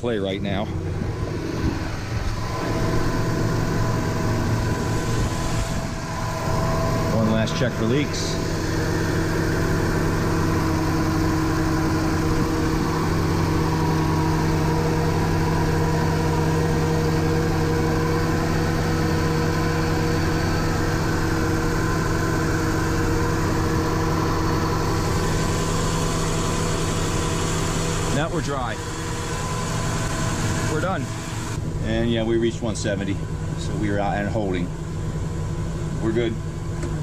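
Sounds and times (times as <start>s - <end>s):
boat engine idling: 0.0s - 37.0s.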